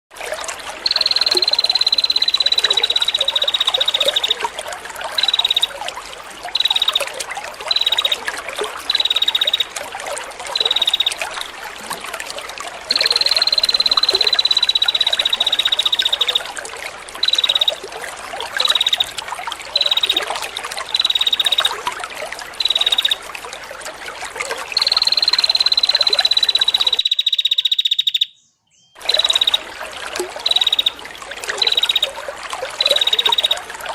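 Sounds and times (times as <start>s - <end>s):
trickle of running water: 0.1s - 33.9s.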